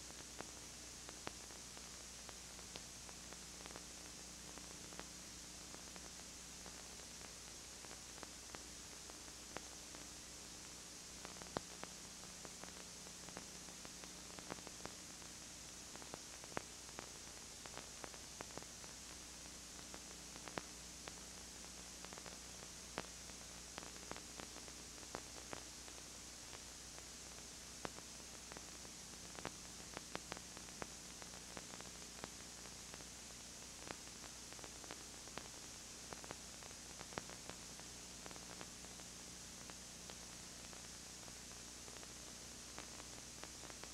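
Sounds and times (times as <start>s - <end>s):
soft clicks and crackles: 0.0s - 43.9s
tape hiss: 0.0s - 43.9s.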